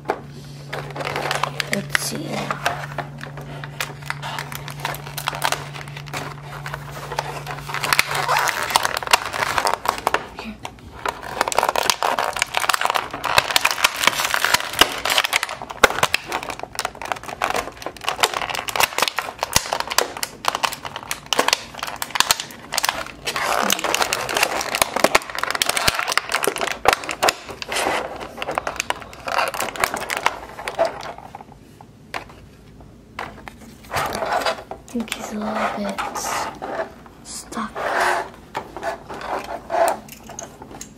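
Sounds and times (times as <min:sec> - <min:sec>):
plastic packaging crinkling: 0:00.6 - 0:40.9.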